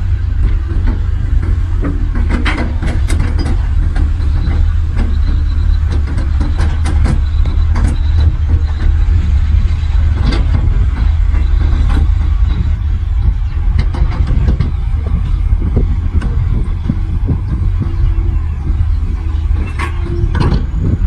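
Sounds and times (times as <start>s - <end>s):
diesel engine rumbling: 0.0s - 21.0s
metallic clanks and knocks: 0.0s - 21.0s.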